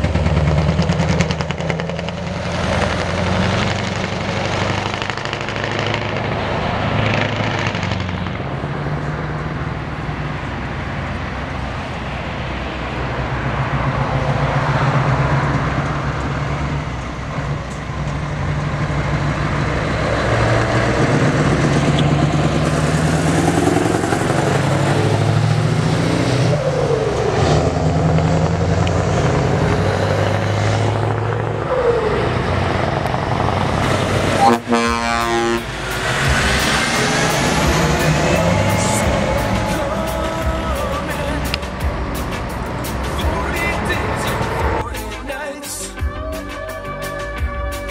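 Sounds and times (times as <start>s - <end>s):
diesel truck engines driving by: 0.0s - 47.9s.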